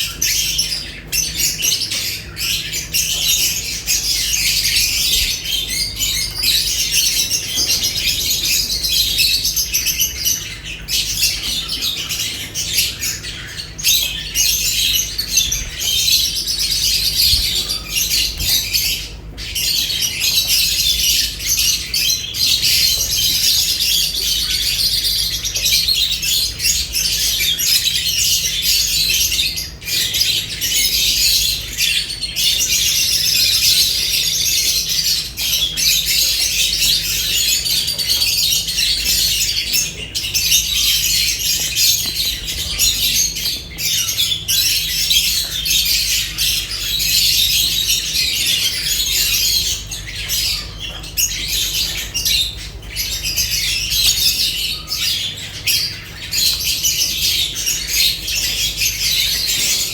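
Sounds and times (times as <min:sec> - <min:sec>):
lovebirds chattering and squawking: 0:00.0 - 0:59.9.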